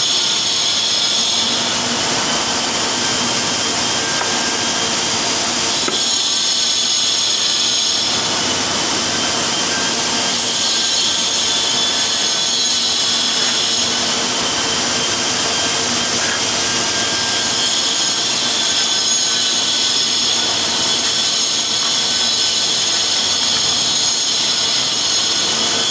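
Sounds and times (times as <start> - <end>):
power tool motor whining: 0.2 - 25.9.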